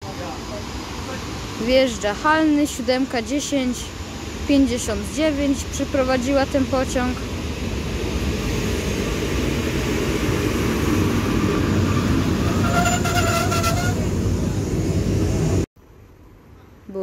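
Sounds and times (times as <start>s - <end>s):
train wheels rumbling: 0.0s - 15.7s.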